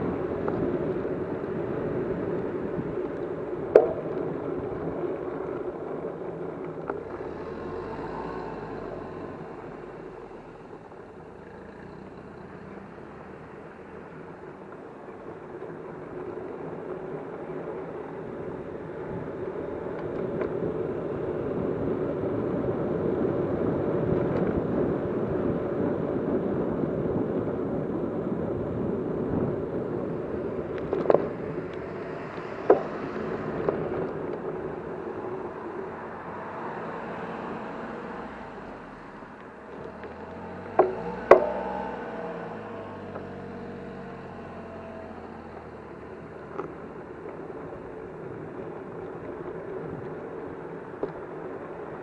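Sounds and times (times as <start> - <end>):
motor vehicle noise: 0.0 - 52.0.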